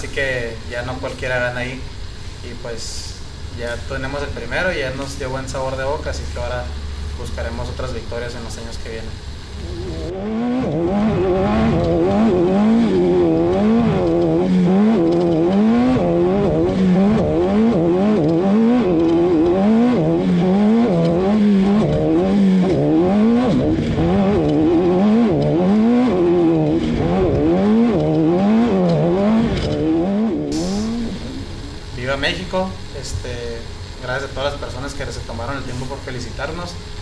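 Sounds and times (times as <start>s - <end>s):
race car engine revving: 0.0s - 36.9s.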